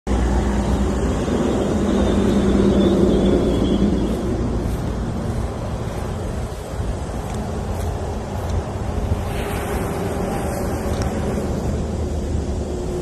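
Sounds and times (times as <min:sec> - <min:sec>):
vehicle engine rumble: 0:00.1 - 0:13.0.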